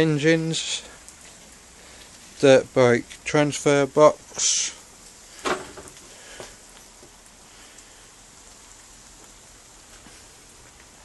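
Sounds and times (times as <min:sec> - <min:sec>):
rain patter: 0:00.0 - 0:11.0.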